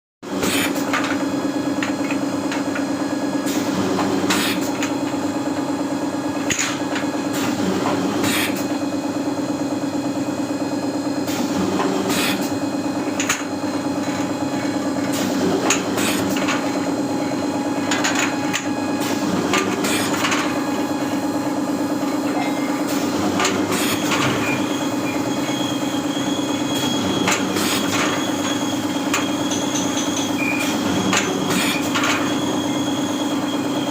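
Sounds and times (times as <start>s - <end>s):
machine motor hum with hiss: 0.3s - 33.9s.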